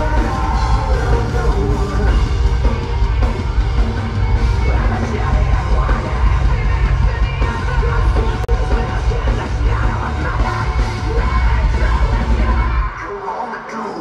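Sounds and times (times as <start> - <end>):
rock band playing live: 0.0 - 13.6
yelled vocals: 0.0 - 14.0.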